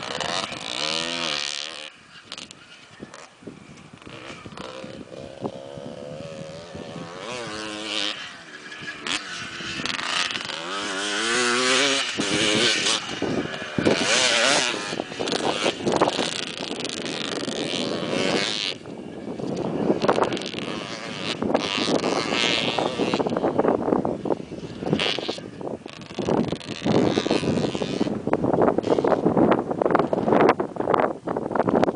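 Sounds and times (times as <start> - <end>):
motocross bike engine revving: 0.0 - 30.5.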